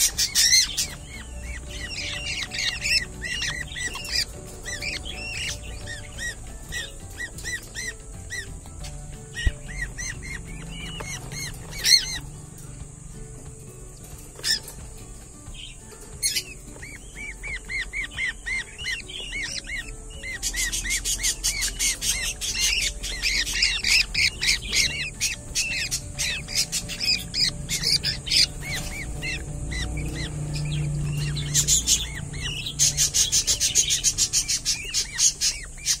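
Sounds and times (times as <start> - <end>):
young budgerigars chirping: 0.0 - 36.0.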